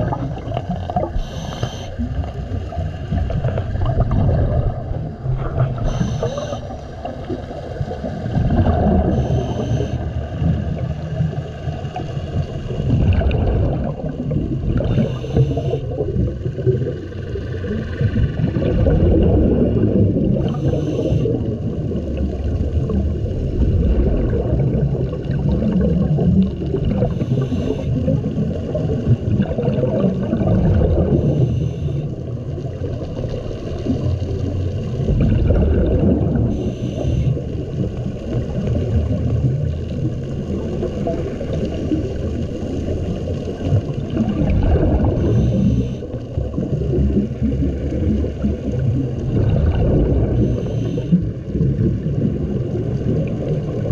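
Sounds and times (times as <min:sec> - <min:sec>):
diver exhaling bubbles: 0:00.0 - 0:53.9
low rumble of moving water: 0:00.0 - 0:53.9.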